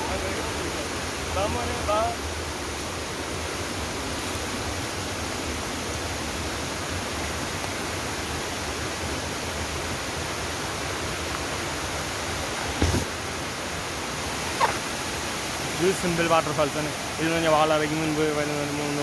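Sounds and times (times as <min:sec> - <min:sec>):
small waterfall roaring: 0:00.0 - 0:19.0.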